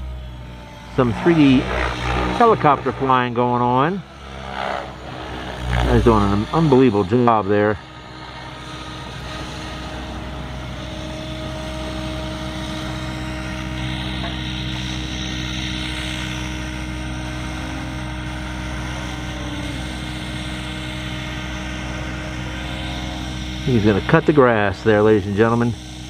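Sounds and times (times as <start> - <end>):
helicopter rotor blades whirring: 0.0 - 26.0.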